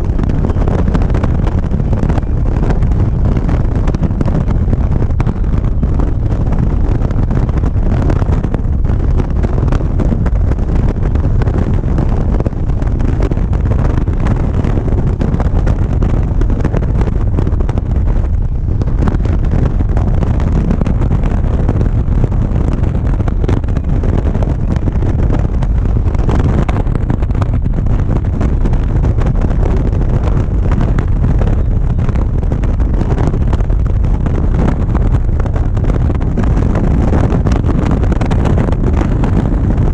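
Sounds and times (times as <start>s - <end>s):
road noise: 0.0s - 39.9s
wind rushing on microphone: 0.0s - 39.9s.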